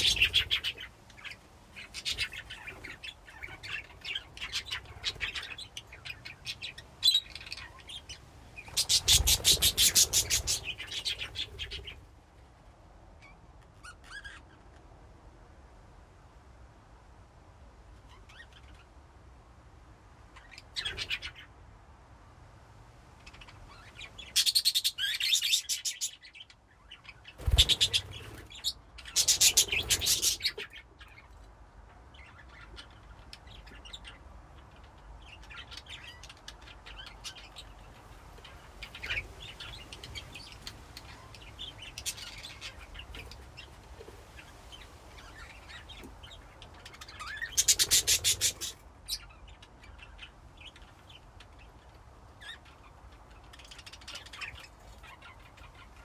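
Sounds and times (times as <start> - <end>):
budgerigars chirping and chattering: 0.0 - 12.0, 13.8 - 14.5, 20.4 - 21.5, 23.3 - 31.4, 32.2 - 56.0.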